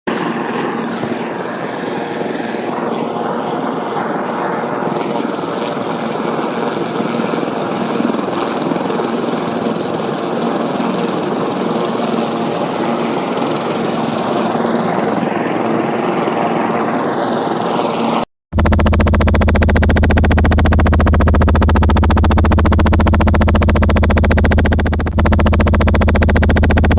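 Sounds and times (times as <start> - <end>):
helicopter rotor and engine: 0.1 - 26.9.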